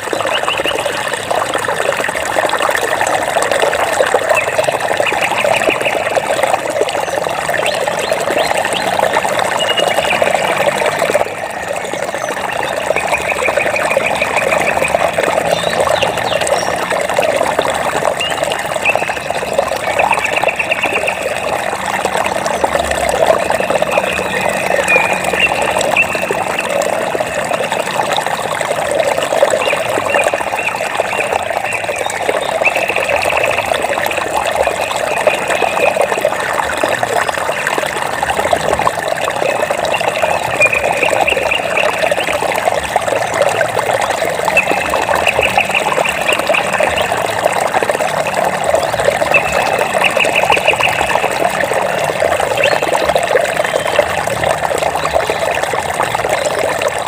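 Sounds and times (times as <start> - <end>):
water rushing and splashing: 0.0 - 57.0.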